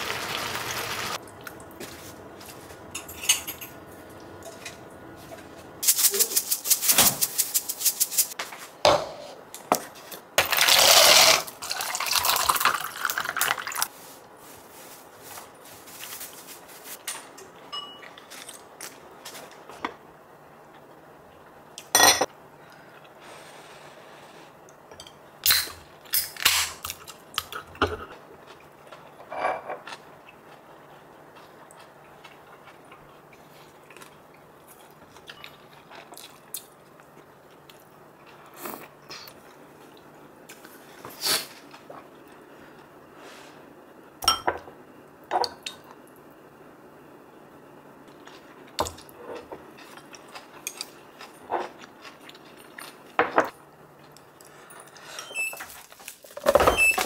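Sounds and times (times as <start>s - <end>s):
faint steady hum: 9.0s - 57.0s.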